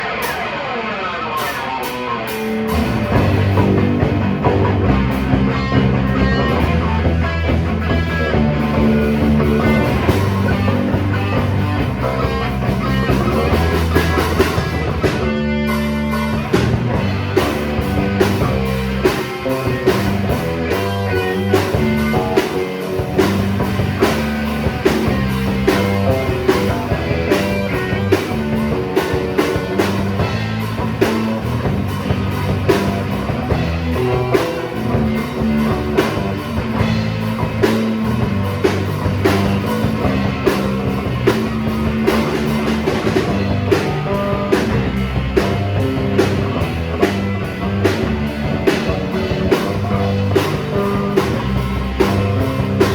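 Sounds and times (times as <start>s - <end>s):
rock music with guitar and drums: 0.0s - 52.9s.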